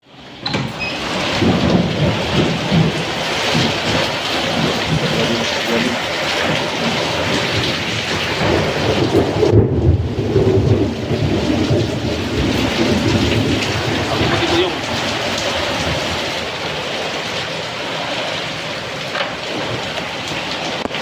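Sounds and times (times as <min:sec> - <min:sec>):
heavy rain hissing: 0:00.1 - 0:21.0.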